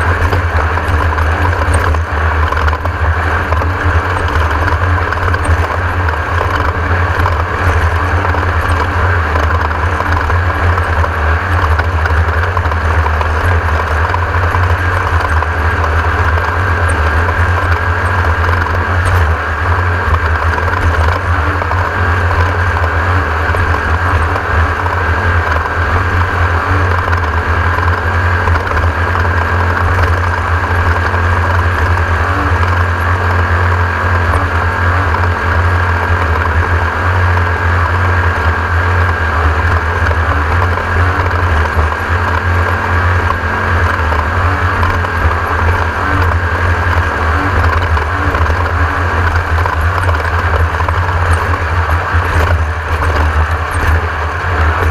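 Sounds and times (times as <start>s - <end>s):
race car engine running hard: 0.0s - 54.9s.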